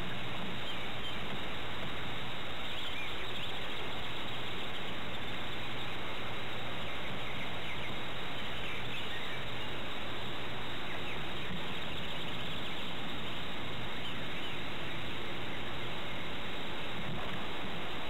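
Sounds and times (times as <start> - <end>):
faint bird chirps: 0.0 - 18.0
tape hiss and low hum: 0.0 - 18.0.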